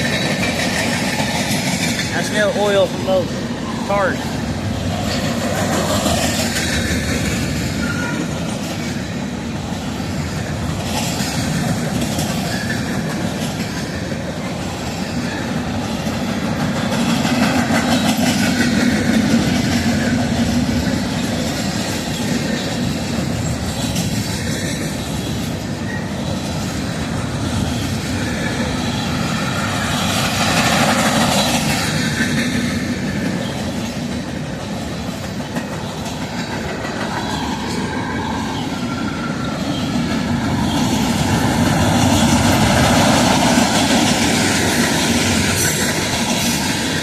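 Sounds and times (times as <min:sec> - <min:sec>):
freight train passing: 0:00.0 - 0:47.0
wheels clattering on rail joints: 0:00.0 - 0:47.0.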